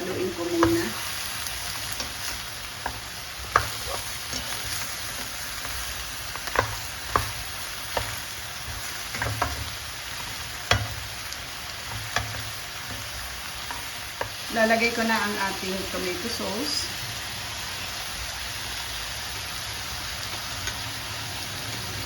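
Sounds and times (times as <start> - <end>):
ribs sizzling in oil: 0.0 - 22.0.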